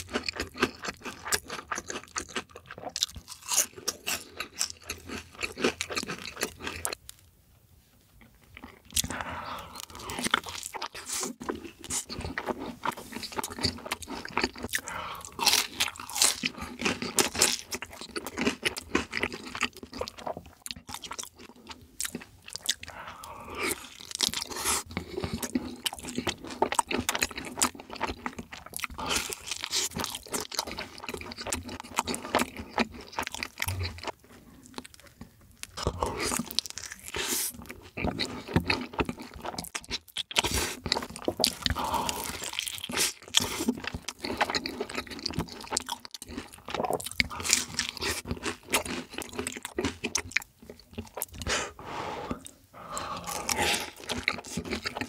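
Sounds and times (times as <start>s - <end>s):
man crunching and chewing food: 0.0s - 7.3s, 8.1s - 55.0s.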